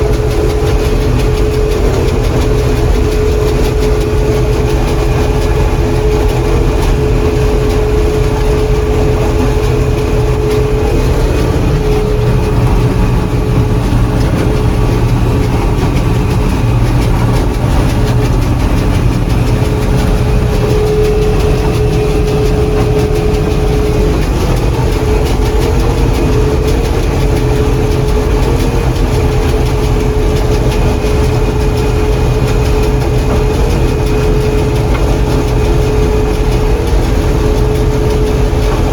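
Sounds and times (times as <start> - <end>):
combine harvester rumbling: 0.0 - 38.9
steady machine whine: 0.0 - 38.9.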